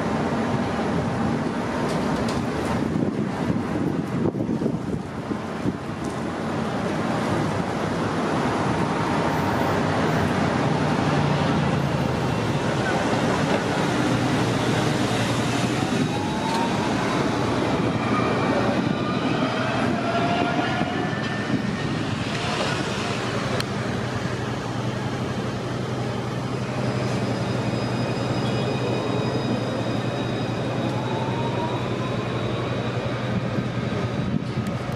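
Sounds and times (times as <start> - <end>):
trams rumbling past: 0.0 - 34.9.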